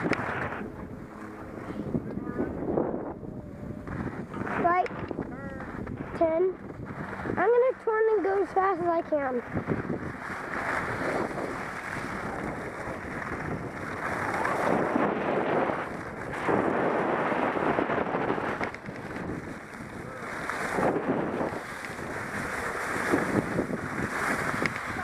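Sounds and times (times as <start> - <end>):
skis scraping over snow: 0.0 - 2.9, 3.8 - 25.0
wind buffeting microphone: 0.0 - 25.0.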